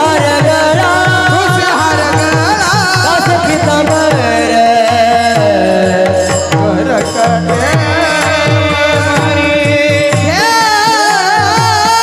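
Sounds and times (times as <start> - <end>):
devotional song melody: 0.0 - 12.0.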